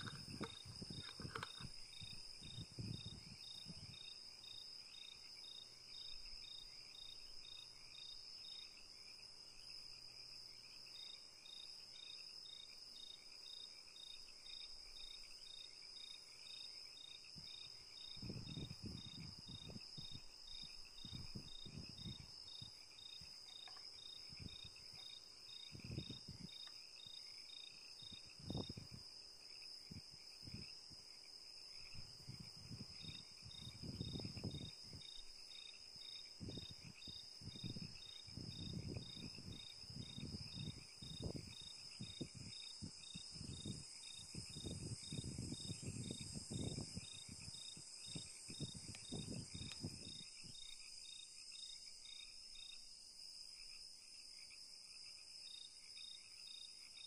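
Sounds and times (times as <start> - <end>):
cricket trill: 0.0 - 57.0.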